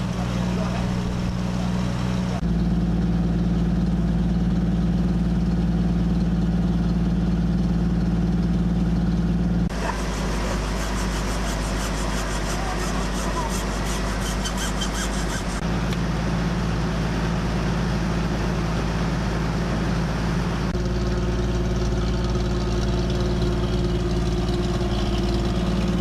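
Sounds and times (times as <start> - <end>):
engines idling in low drone: 0.0 - 26.0.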